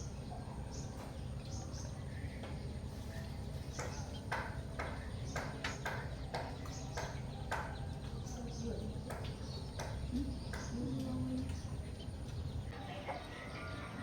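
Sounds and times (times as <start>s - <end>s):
small bird chirping: 0.0s - 13.8s.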